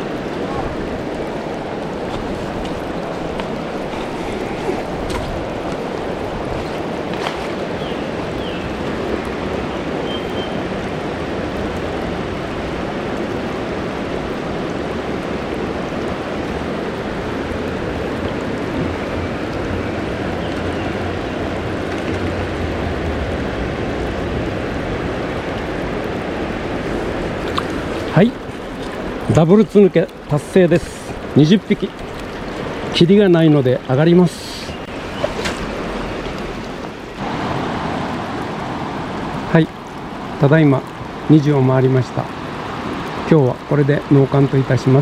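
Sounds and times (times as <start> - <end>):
river rushing over rocks: 0.0 - 45.0.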